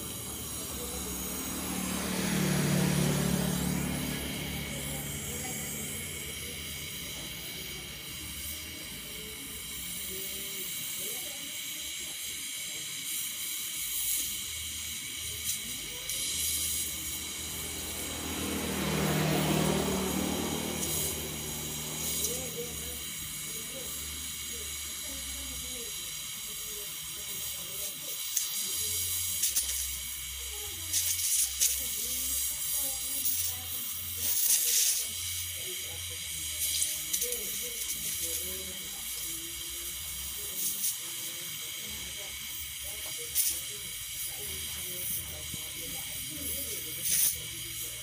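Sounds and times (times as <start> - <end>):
torch flame hissing: 0.0 - 48.0.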